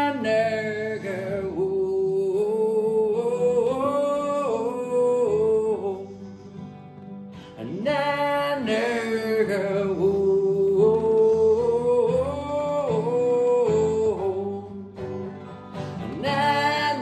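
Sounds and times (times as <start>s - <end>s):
man singing: 0.0s - 6.7s, 7.4s - 15.2s, 15.8s - 17.0s
acoustic guitars playing: 0.0s - 17.0s.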